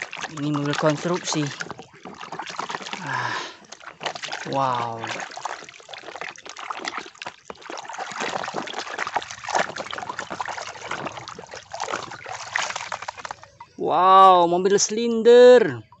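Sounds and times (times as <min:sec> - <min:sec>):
muddy water splashing: 0:00.0 - 0:14.9.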